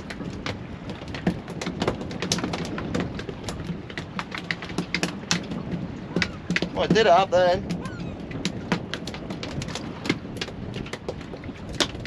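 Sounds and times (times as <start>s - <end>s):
water slapping against hull: 0.0s - 12.0s.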